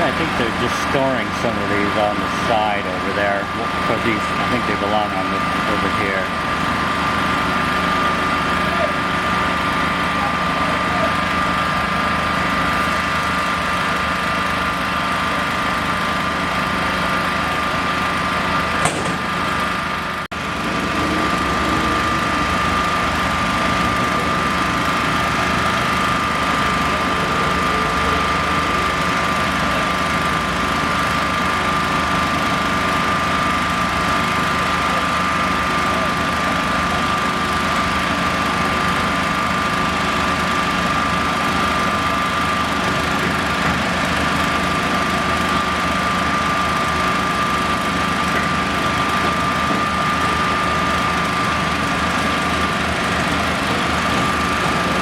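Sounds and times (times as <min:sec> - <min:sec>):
machine running with whine: 0:00.0 - 0:55.0.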